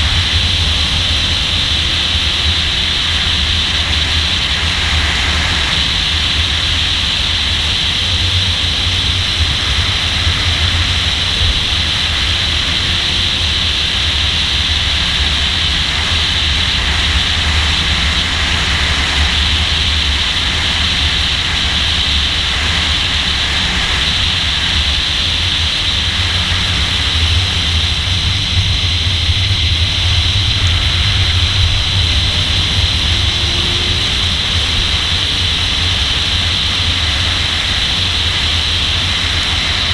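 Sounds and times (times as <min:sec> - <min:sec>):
engine and road rumble: 0:00.0 - 0:39.9
wind rushing over microphone: 0:00.0 - 0:39.9.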